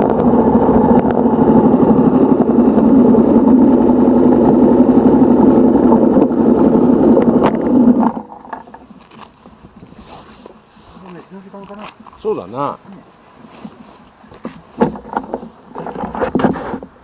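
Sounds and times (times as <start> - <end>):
vehicle engine on road: 0.0 - 17.0.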